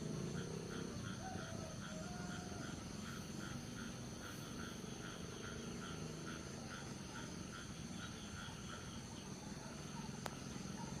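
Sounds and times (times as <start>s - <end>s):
low outdoor hum: 0.0s - 11.0s.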